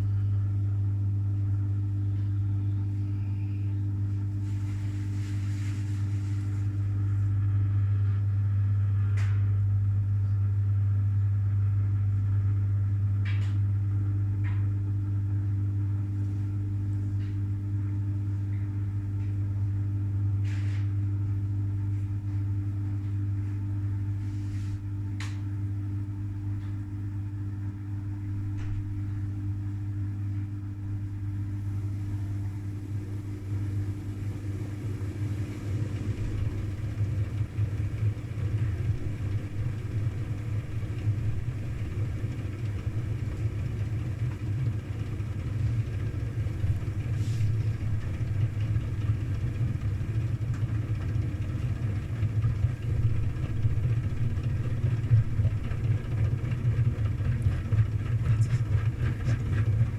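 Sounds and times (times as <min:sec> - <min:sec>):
washing machine spinning hum: 0:00.0 - 0:59.9.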